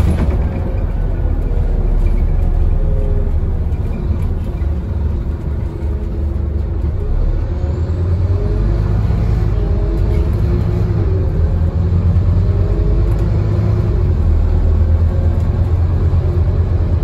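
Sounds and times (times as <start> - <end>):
bus diesel engine rumbling: 0.0 - 17.0
road noise: 0.0 - 17.0.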